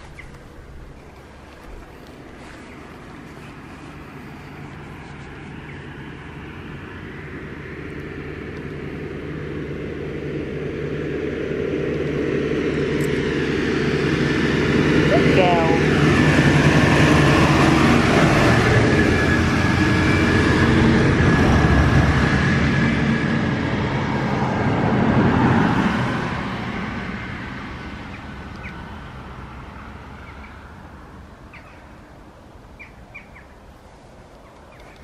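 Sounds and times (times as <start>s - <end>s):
vehicle passing close by: 0.0s - 35.0s.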